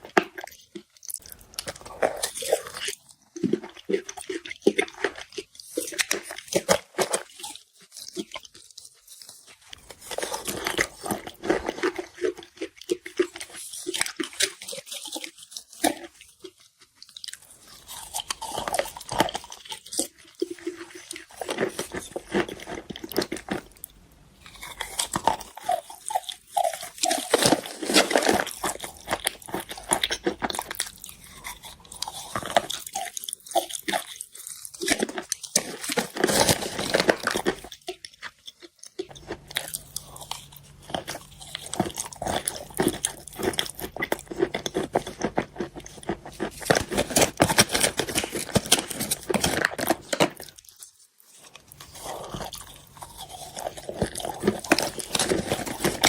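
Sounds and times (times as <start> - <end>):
chalk being chewed: 0.0 - 56.0.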